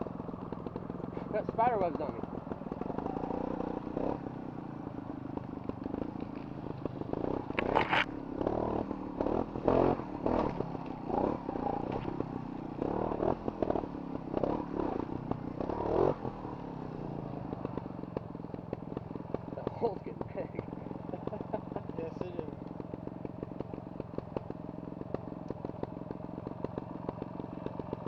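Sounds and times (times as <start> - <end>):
motorcycle clatter: 0.0 - 28.0
motorcycle engine throttle bursts: 0.0 - 28.0.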